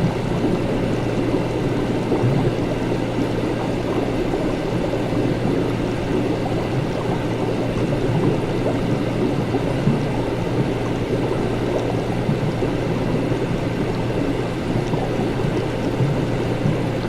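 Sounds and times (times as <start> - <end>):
liquid bubbling and gurgling: 0.0 - 17.0
low constant hum: 0.0 - 17.0.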